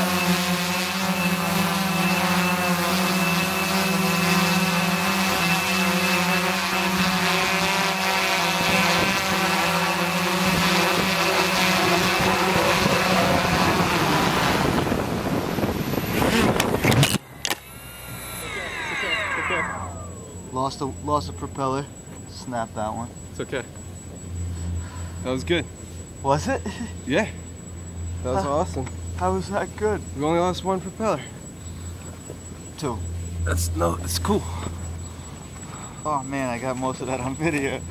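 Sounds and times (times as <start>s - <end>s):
drone motors buzzing: 0.0s - 37.9s.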